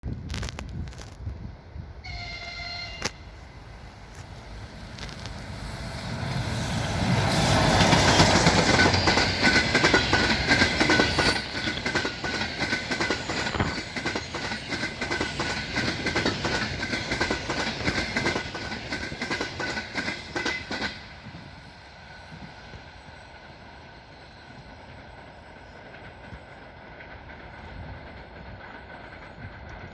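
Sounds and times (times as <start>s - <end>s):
faint train rumble: 0.1s - 29.9s
train wheels clickety-clack: 4.1s - 29.9s.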